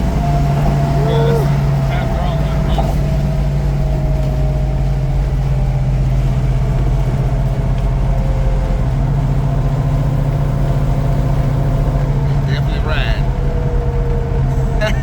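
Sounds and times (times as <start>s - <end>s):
car engine droning steadily: 0.0s - 15.0s.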